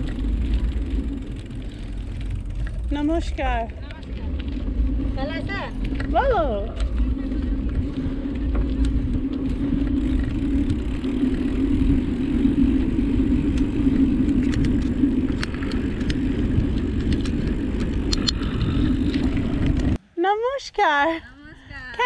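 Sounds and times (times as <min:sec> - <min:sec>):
motorbike engine running: 0:00.0 - 0:20.0
wind rumble on microphone: 0:00.0 - 0:20.0.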